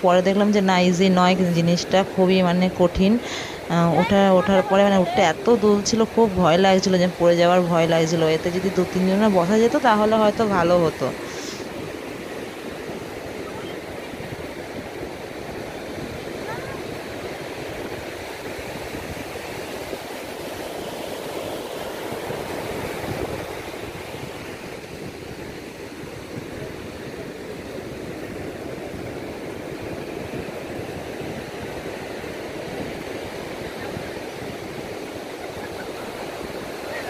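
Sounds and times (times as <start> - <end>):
sea surf: 0.0 - 37.0
wind: 0.0 - 37.0.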